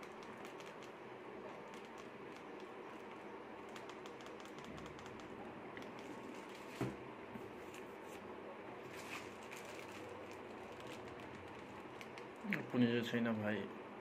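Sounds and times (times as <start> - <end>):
low room noise: 0.0 - 14.0.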